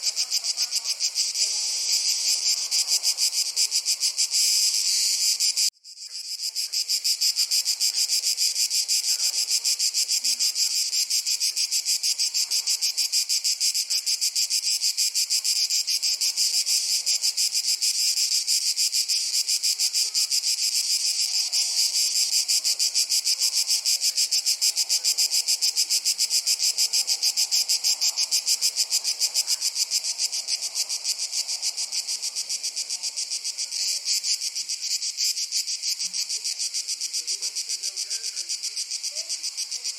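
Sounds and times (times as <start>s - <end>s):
insects pulsing chorus: 0.0s - 39.9s.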